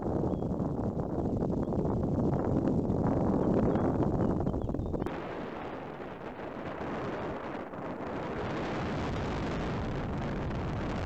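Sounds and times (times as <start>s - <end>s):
wind and rain rushing: 0.0s - 11.0s.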